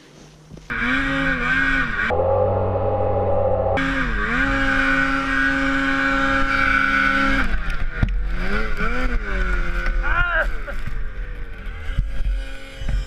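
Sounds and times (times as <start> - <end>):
snowmobile engine at high revs: 0.6 - 13.0.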